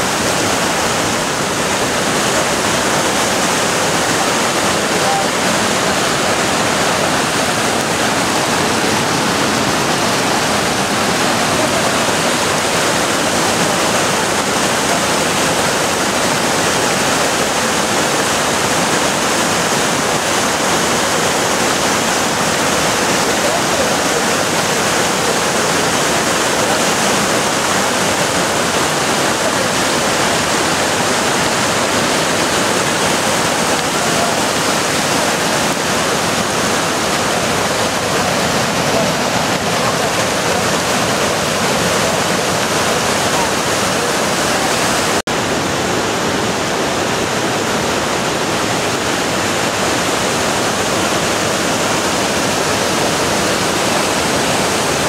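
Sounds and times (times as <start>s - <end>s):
river rushing over boulders: 0.0s - 55.0s.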